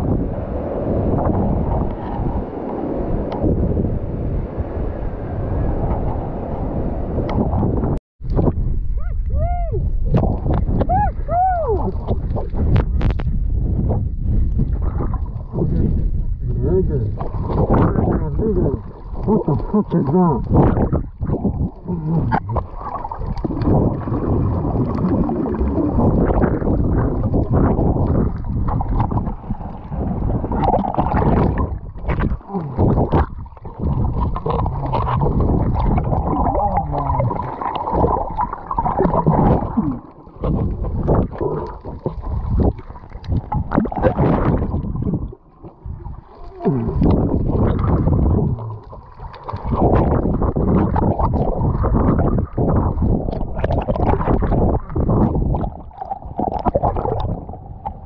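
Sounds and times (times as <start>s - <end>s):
muffled underwater rushing and gurgling: 0.0s - 58.0s.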